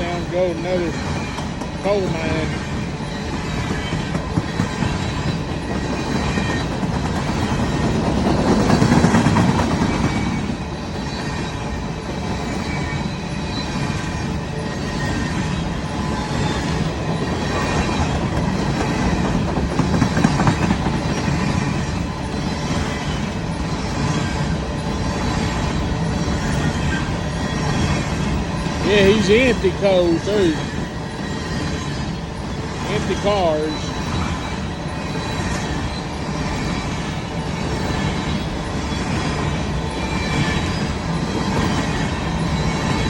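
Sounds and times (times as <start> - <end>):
train wheels clattering on rails: 0.0 - 43.0
wheel squeal: 0.0 - 43.0.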